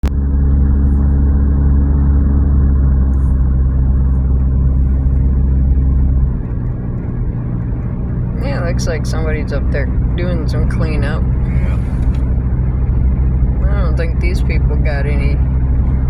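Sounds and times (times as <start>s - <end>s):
engine and road drone: 0.0s - 16.0s.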